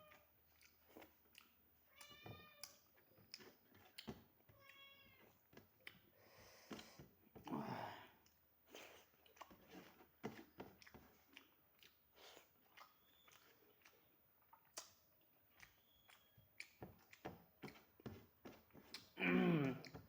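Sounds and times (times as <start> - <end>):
person chewing food: 0.1 - 7.4, 8.2 - 20.0.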